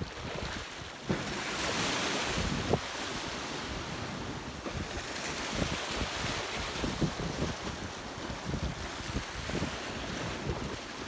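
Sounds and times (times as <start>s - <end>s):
small waves washing on shore: 0.0s - 11.0s
wind buffeting microphone: 0.0s - 11.0s.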